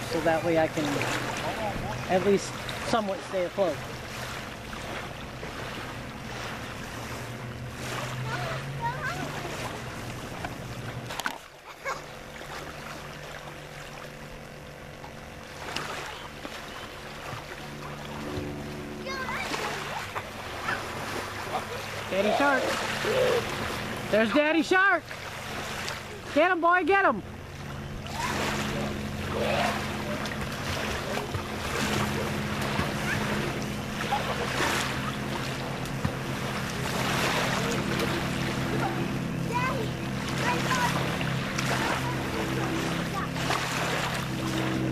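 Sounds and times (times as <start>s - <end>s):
low steady hum: 0.0s - 44.9s
water splashing around swimmers: 0.0s - 44.9s
wind: 0.0s - 44.9s.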